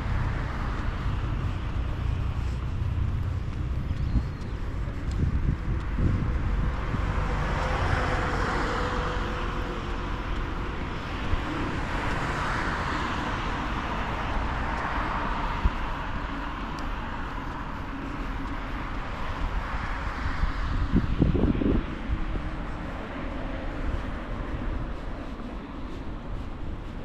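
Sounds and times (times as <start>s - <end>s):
low traffic rumble: 0.0s - 27.0s
vehicles passing: 0.0s - 27.0s.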